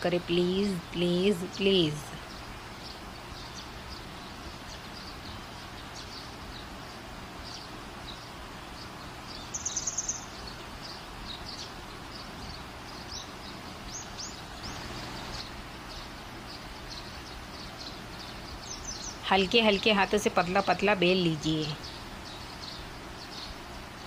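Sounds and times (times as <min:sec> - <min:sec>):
birds chirping: 0:00.0 - 0:24.0
steady background hiss: 0:00.0 - 0:24.0
bird trill: 0:00.6 - 0:23.6.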